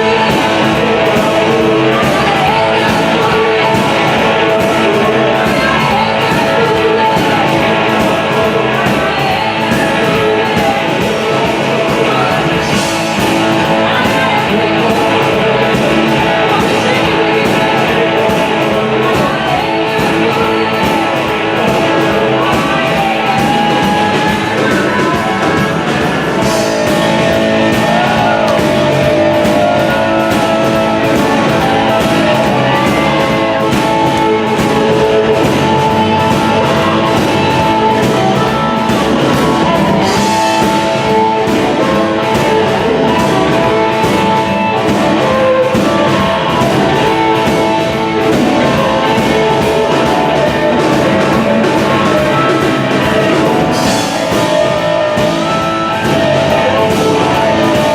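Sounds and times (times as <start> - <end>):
drum kit steady beat: 0.0 - 57.9
electric guitar with bent notes: 0.0 - 57.9.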